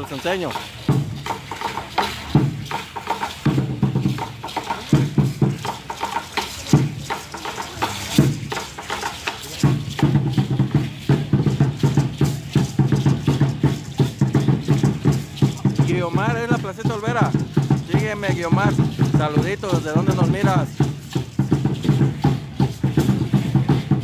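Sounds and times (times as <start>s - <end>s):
ankle rattles shaking: 0.0s - 24.0s
drum beating: 0.0s - 24.0s.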